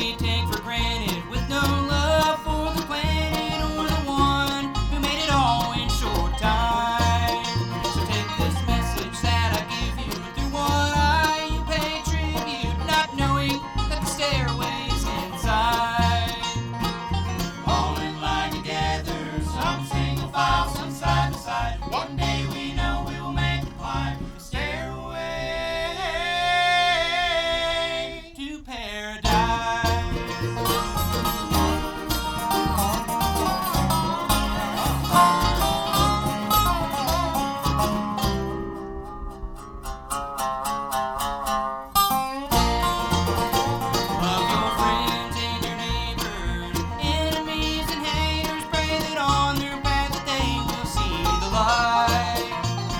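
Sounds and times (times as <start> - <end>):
bluegrass band playing: 0.0 - 26.8, 29.2 - 52.9.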